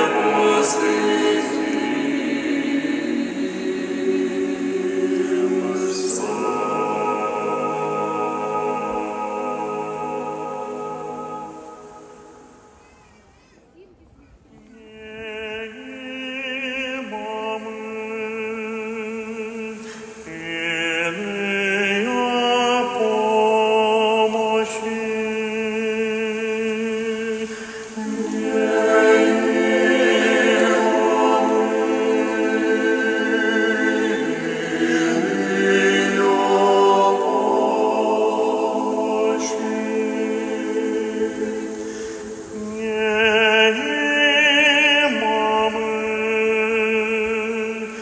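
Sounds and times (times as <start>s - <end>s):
choir singing a cappella chant: 0.0s - 12.9s, 14.6s - 48.0s.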